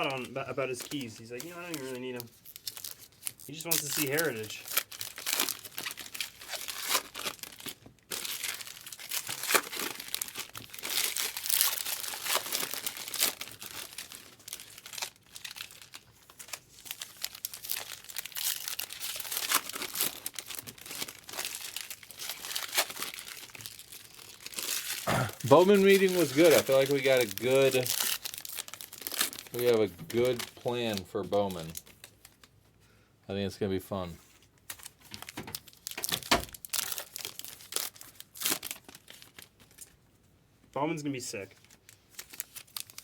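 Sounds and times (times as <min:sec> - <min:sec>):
foil wrappers tearing and crinkling: 0:00.0 - 0:32.5, 0:34.6 - 0:40.0, 0:41.6 - 0:43.0.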